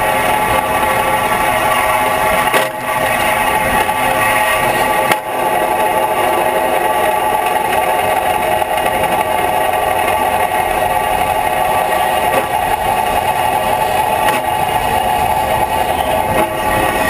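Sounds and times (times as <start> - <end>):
electric tram vibration hum: 0.0 - 17.0
wind: 0.0 - 17.0.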